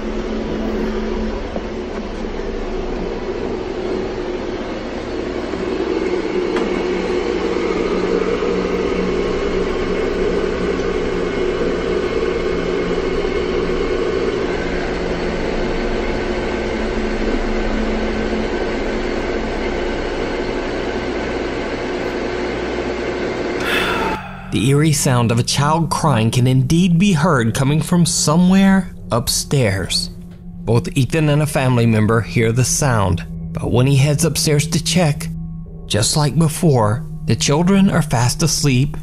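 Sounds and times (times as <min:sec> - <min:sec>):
droning hiss and hum: 0:00.0 - 0:39.0.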